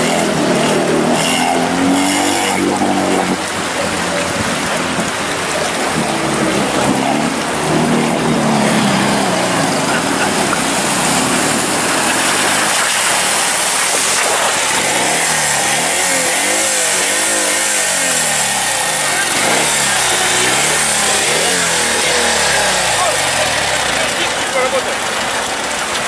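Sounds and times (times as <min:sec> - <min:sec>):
motorcycle engine revving: 0:00.0 - 0:26.0
rushing water: 0:00.0 - 0:26.0.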